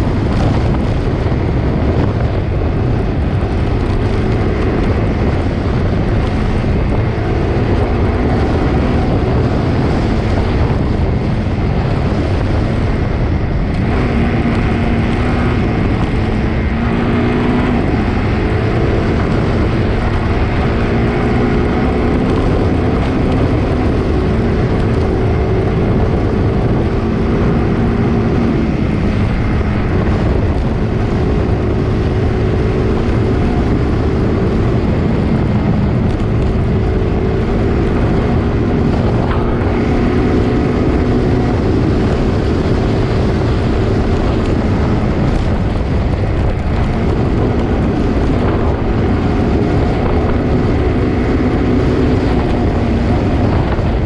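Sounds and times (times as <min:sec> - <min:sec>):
vehicle engine running: 0:00.0 - 0:54.0
wind noise on microphone: 0:00.0 - 0:54.0.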